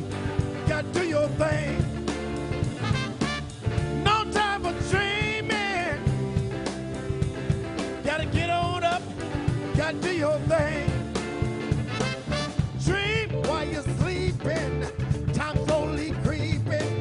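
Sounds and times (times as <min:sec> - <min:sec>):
song with singer and band: 0:00.0 - 0:17.0.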